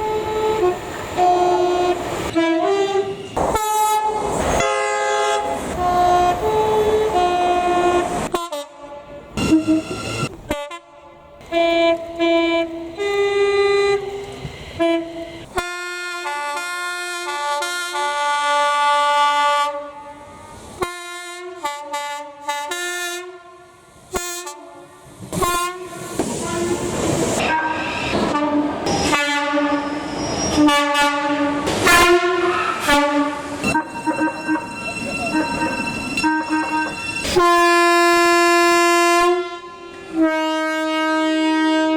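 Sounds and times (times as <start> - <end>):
train horn blasts: 0.0 - 41.9
train running noise: 0.0 - 41.9.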